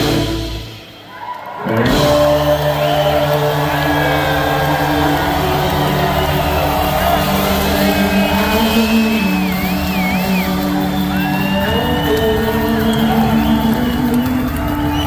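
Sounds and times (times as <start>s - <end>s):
electric guitar line: 0.0s - 15.0s
live blues-rock band: 1.6s - 15.0s.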